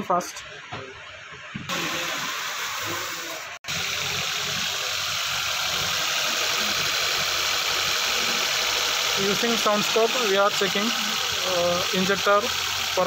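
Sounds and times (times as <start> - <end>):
petrol engine idling: 1.7 - 13.0.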